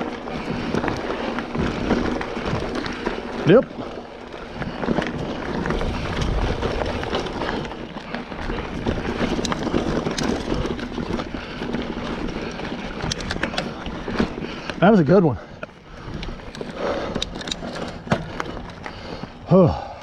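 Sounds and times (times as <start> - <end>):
bike rattling: 0.0 - 20.0
tyres rumbling over dirt: 0.0 - 20.0.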